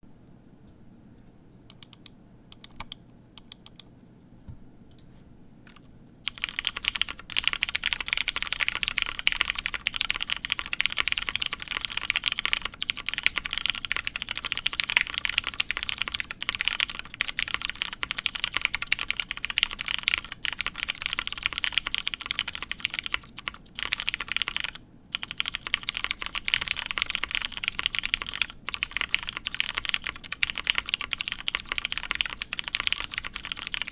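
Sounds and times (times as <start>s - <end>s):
mechanical keyboard typing: 1.7s - 3.9s, 5.7s - 33.9s.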